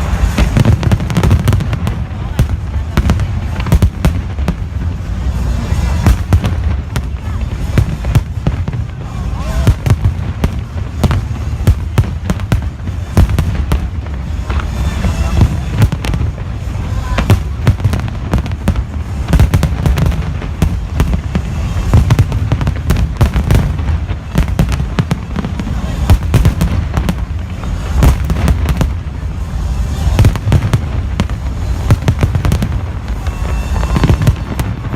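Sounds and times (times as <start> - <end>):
deep rolling rumble: 0.0 - 34.9
fireworks bangs: 0.0 - 34.9.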